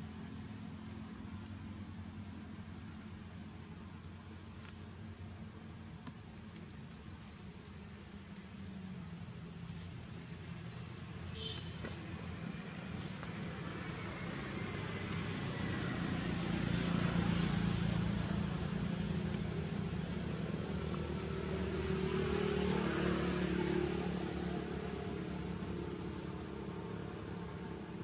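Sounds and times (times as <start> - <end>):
distant vehicle engine: 5.3 - 28.0.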